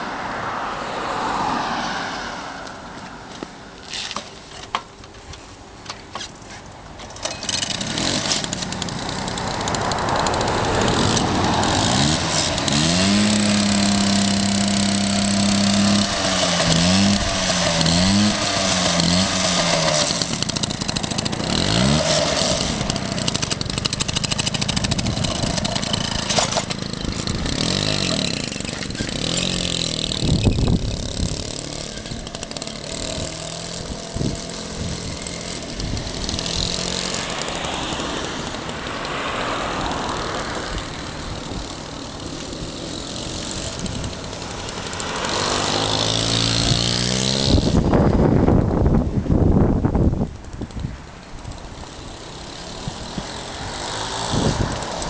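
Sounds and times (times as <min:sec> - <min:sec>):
moped engine starting and revving: 0:07.0 - 0:48.9, 0:51.4 - 0:55.0.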